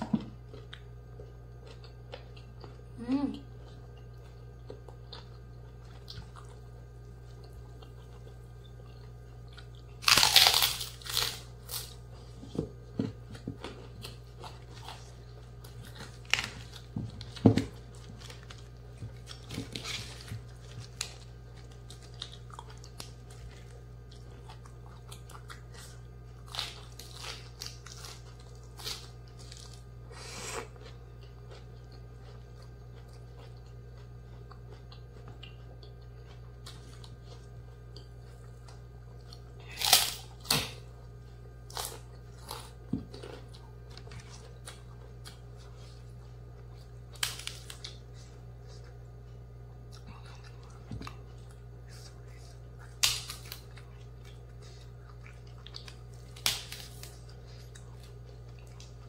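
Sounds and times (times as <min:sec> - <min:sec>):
person chewing crunchy vegetables: 0:00.0 - 0:59.0
steady low hum: 0:00.0 - 0:59.0.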